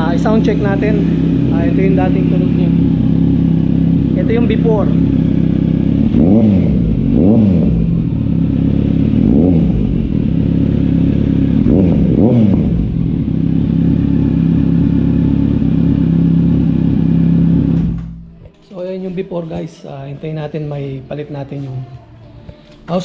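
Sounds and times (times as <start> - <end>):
motorcycle engine idling and revving: 0.0 - 18.4.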